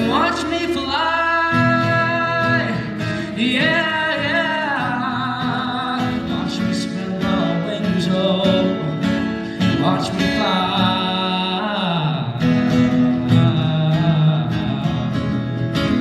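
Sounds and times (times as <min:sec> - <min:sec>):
held vocal line: 0:00.0 - 0:15.3
acoustic guitar: 0:00.0 - 0:16.0.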